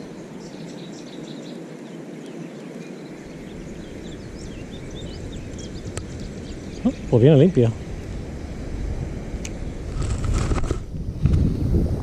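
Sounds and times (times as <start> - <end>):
small birds chirping: 0.0 - 8.8, 9.4 - 10.5
steady outdoor background rush: 0.0 - 11.0.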